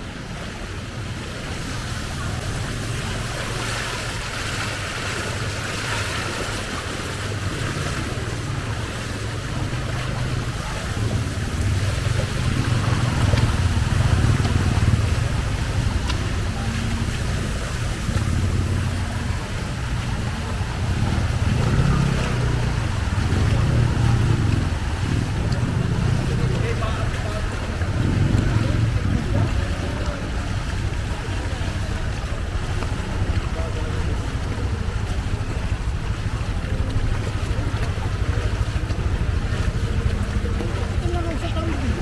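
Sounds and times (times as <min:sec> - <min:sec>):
floodwater flowing: 0:00.0 - 0:42.0
vehicle engine running: 0:01.0 - 0:42.0.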